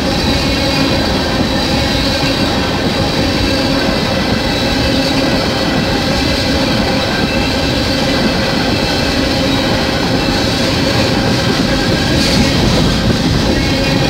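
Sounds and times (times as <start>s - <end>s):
thin high whine: 0.0s - 14.0s
train wheels rumbling on rail: 0.0s - 14.0s.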